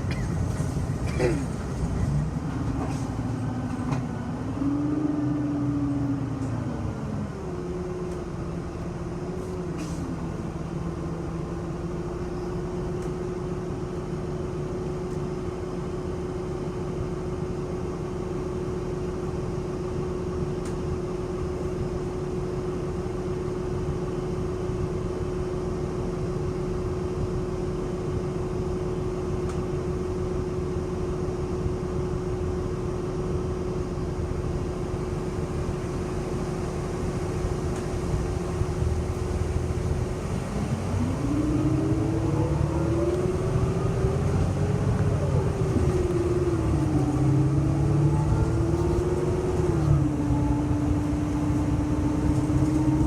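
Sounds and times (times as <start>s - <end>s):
bus drivetrain rumble and whine: 0.0s - 53.0s.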